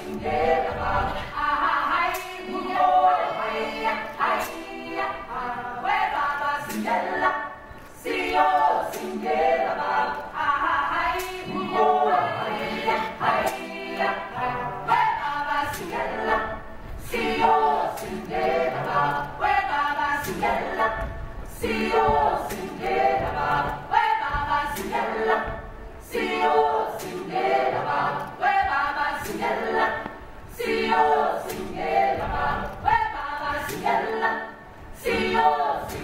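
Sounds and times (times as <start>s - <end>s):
chorus singing: 0.0s - 36.0s.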